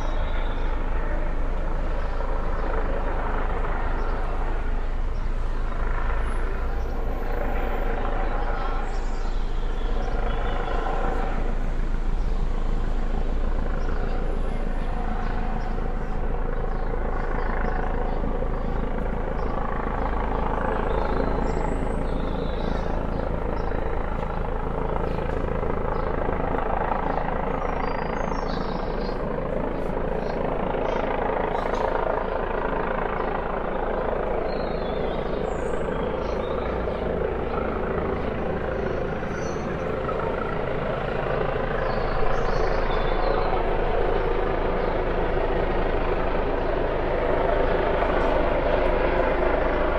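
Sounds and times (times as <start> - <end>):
helicopter rotor and turbine: 0.0 - 49.9.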